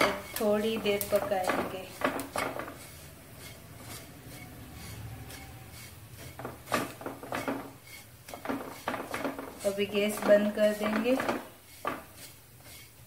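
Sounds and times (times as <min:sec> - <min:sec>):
wooden spatula scraping pan: 0:00.0 - 0:13.0.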